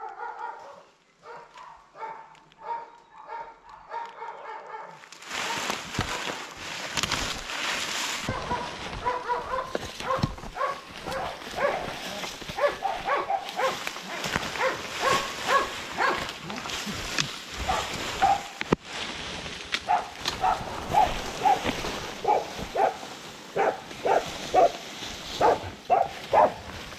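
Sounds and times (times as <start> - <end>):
dogs barking: 0.0 - 6.4, 8.2 - 16.4, 17.6 - 18.6, 19.8 - 26.8
crunching of dry leaves: 5.0 - 26.9.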